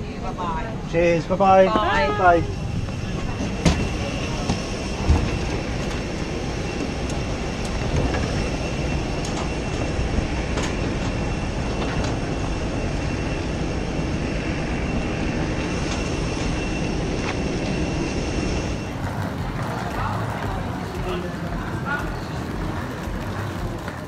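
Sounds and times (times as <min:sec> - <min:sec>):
jet aircraft rumble: 0:00.0 - 0:24.0.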